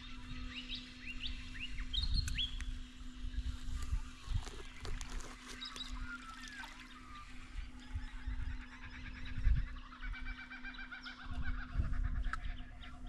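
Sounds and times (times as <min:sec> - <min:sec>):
birds calling: 0:00.0 - 0:13.0
steady low hum: 0:00.0 - 0:13.0.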